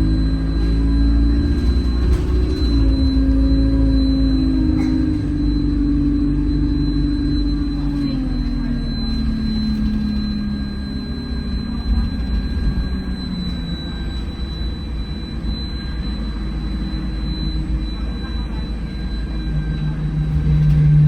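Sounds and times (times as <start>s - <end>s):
bus diesel engine drone: 0.0s - 21.0s
low road rumble: 0.0s - 21.0s.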